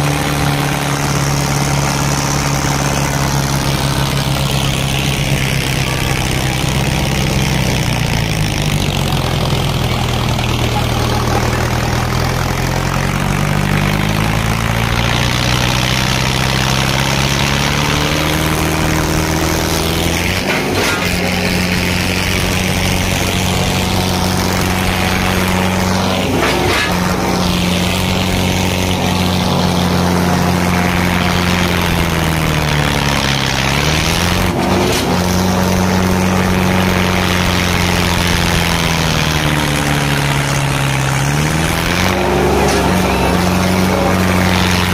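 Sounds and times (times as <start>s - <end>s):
diesel tractor engines under load: 0.0s - 44.9s.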